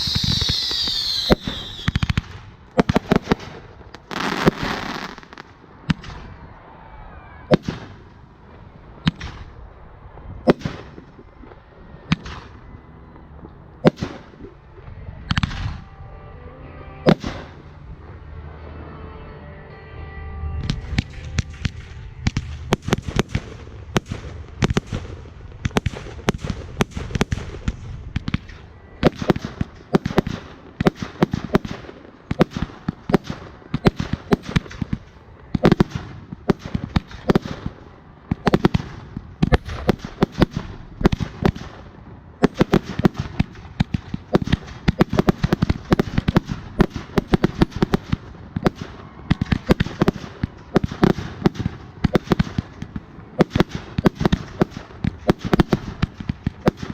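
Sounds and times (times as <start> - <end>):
fireworks crackling and popping: 0.0 - 15.8, 20.6 - 56.9.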